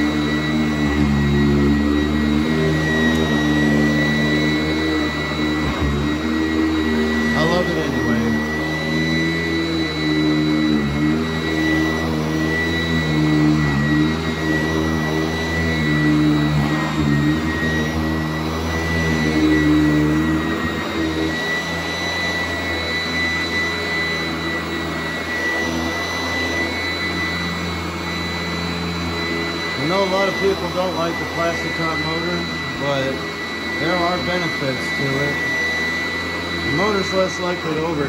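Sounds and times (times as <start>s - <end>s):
upright vacuum running: 0.0s - 38.0s.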